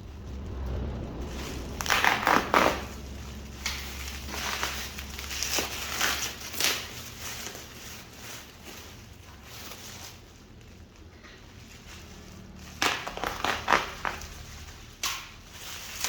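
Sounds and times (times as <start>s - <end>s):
packaging crackling and tearing: 0.2s - 16.0s.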